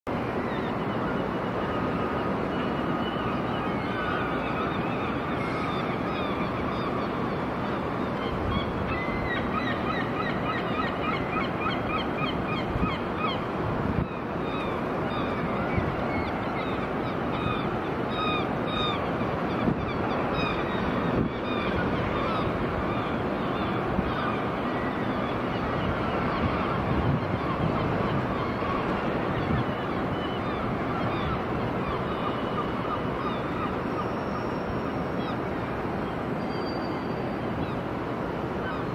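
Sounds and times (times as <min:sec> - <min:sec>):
hum of city noise: 0:00.1 - 0:38.9.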